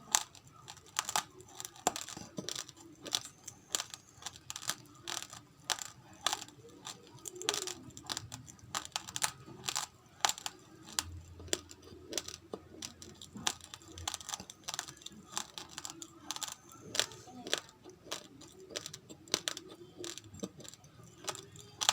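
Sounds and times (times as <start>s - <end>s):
chewing raw rice crunches: 0.0s - 21.9s.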